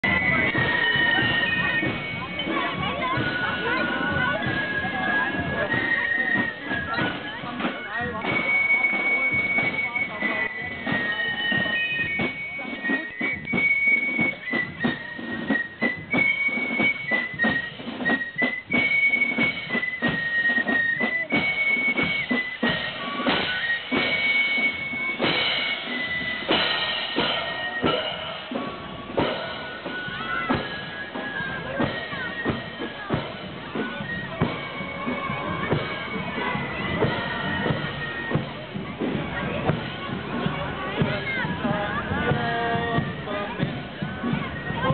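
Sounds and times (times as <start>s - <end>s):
high flute-like melody: 0.0s - 44.9s
steady drum beat: 0.0s - 44.9s.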